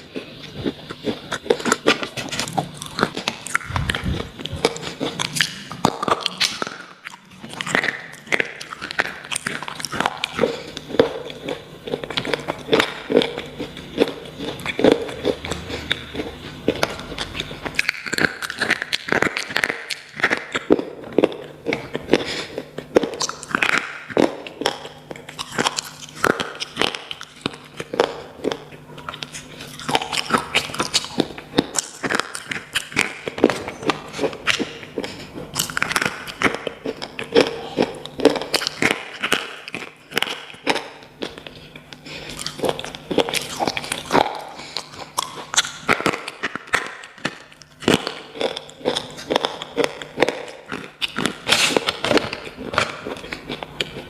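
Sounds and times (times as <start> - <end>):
slate pencils crunching in teeth: 0.0 - 54.0.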